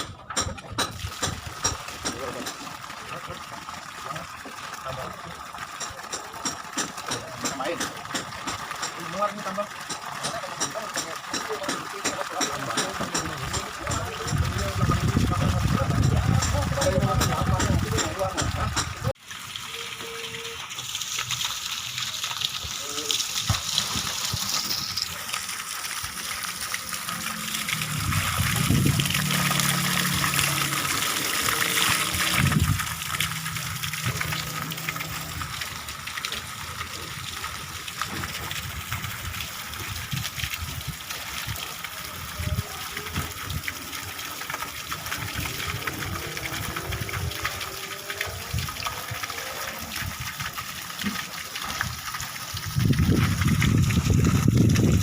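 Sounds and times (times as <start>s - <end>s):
water gushing from pipe: 0.0s - 55.0s.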